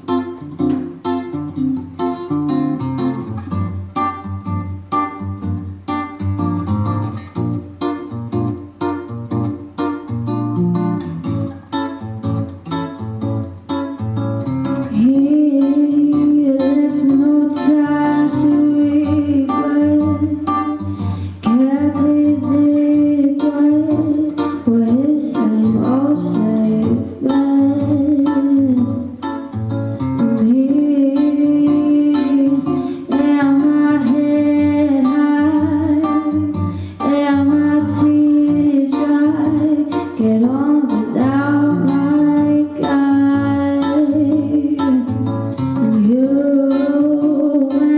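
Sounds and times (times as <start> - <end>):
strummed acoustic guitar: 0.0 - 47.9.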